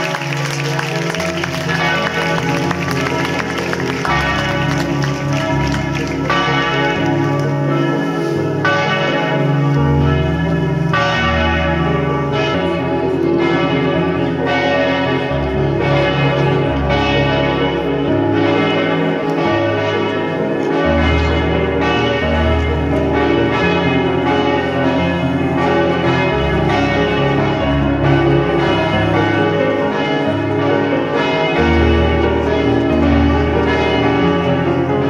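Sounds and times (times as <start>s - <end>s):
church bells ringing: 0.0s - 35.0s.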